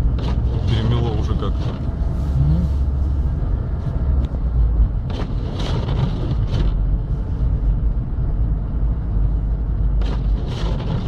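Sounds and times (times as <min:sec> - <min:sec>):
engine and tyres rumbling on snow: 0:00.0 - 0:11.0.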